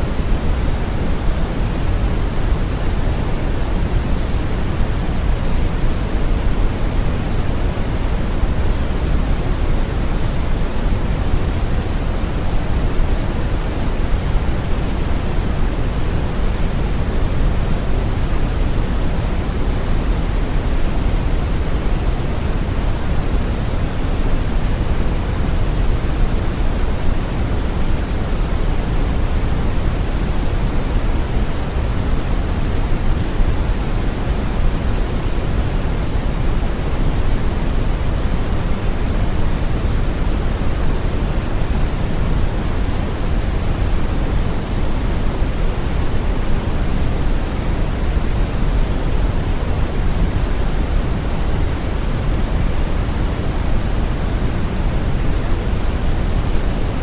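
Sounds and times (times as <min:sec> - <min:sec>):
brown noise hiss: 0:00.0 - 0:57.0.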